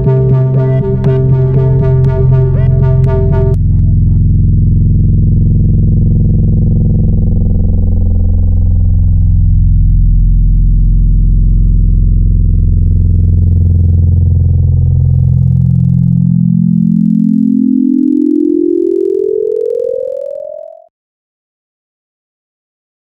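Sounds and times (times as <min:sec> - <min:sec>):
low synthesizer drone: 0:00.0 - 0:20.9.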